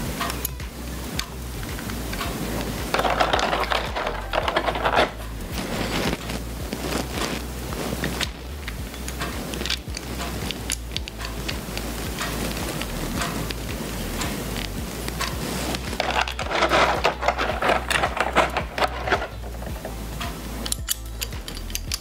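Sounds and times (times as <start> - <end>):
rustling: 0.0 - 22.0
armour pieces clicking and tapping: 0.2 - 22.0.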